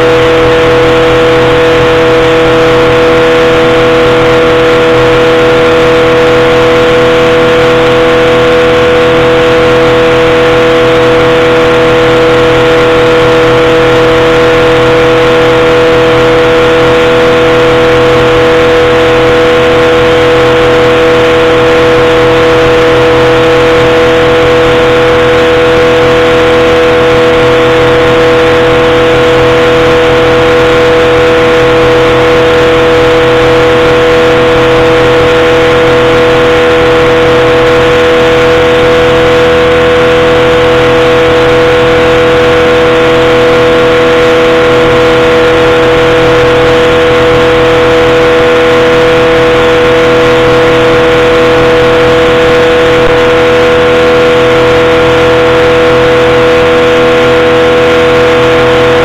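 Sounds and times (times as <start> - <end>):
aircraft engine and propeller drone: 0.0 - 59.0.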